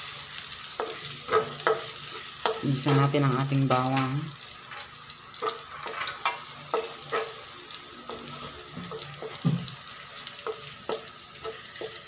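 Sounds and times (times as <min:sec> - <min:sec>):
garlic sizzling in oil: 0:00.0 - 0:12.0
spatula stirring in wok: 0:00.1 - 0:12.0.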